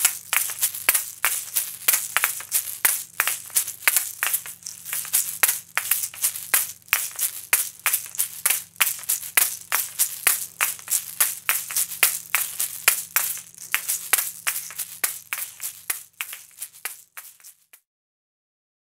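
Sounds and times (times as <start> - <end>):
seeds rattling inside shakers: 0.0 - 17.8
shaker shells clacking: 0.0 - 17.8.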